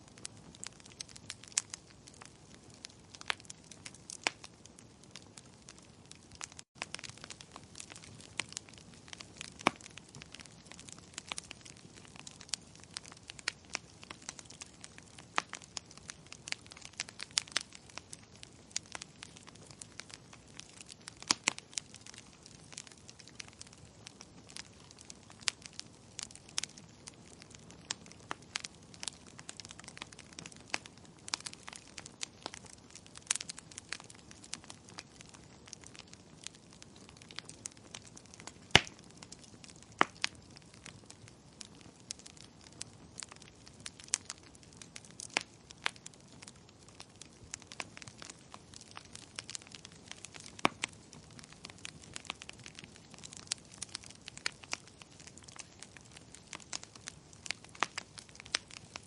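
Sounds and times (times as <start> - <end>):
soft steady hiss: 0.0 - 59.0
wood fire crackling: 0.0 - 59.0.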